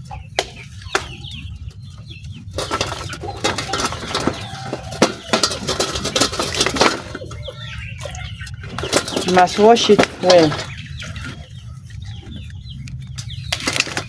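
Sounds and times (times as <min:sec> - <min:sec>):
chickens chirping: 0:00.0 - 0:14.0
rustling and clattering handling: 0:02.5 - 0:14.0.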